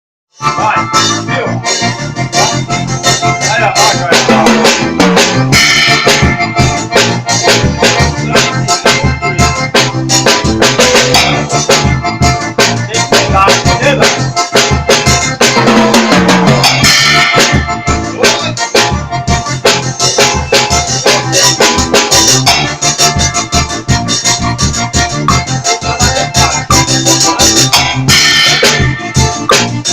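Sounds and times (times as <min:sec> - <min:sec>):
drum kit groove: 0:00.4 - 0:29.9
music with keyboard: 0:00.4 - 0:29.9.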